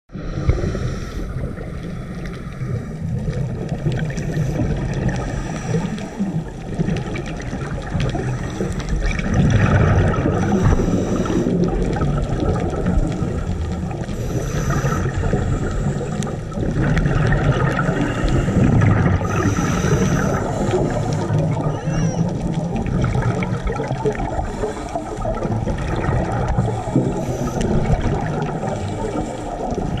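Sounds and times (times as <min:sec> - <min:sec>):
exhaled bubbles gurgling: 0:00.1 - 0:30.0
regulator bubbling rumble: 0:00.1 - 0:30.0.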